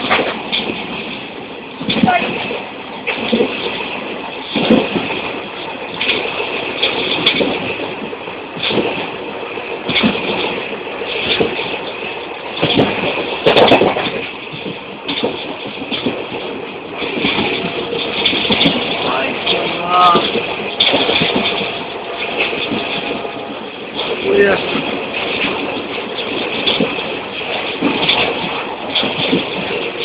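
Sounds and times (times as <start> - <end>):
train clatter: 0.0 - 30.0
train rumble on board: 0.0 - 30.0
wheels knocking over rail joints: 0.0 - 30.0.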